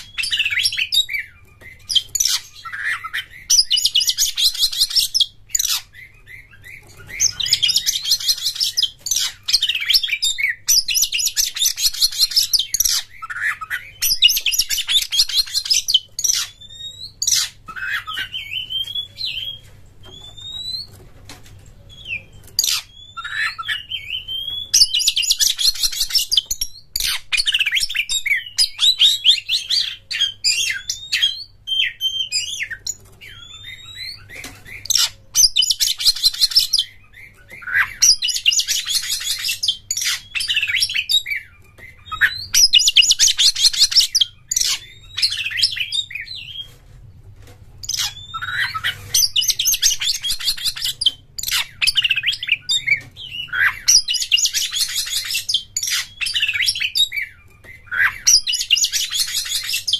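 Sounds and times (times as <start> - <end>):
magpie-robin singing whistles and chirps: 0.0 - 20.9, 21.9 - 46.7, 47.8 - 59.9.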